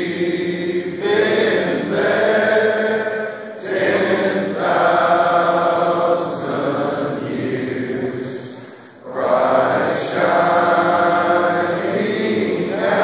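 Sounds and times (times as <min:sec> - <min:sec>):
men singing a hymn: 0:00.0 - 0:13.0.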